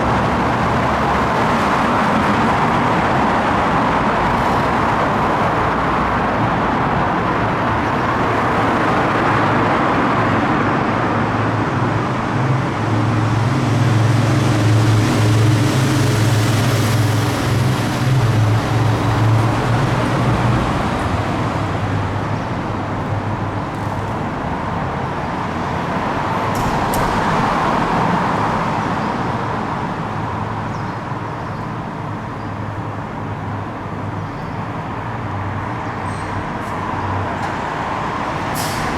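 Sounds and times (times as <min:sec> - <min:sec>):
road traffic noise: 0:00.0 - 0:38.9.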